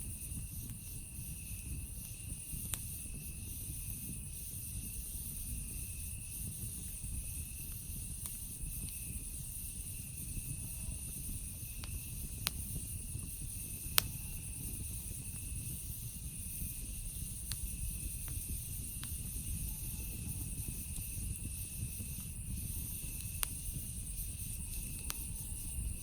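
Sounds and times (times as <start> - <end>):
campfire crackling and popping: 0.0 - 26.0
night insects chorus: 0.0 - 26.0.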